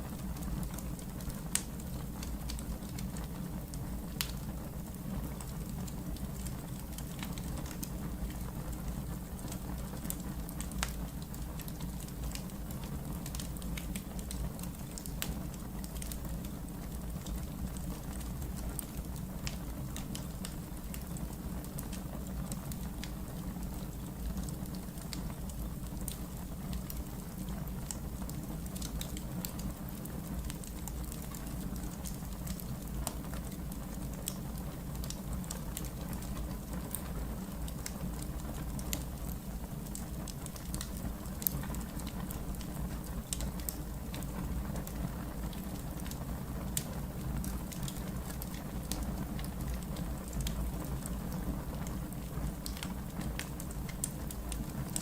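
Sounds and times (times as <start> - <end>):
low fire rumble: 0.0 - 55.0
wood fire crackling: 0.0 - 55.0.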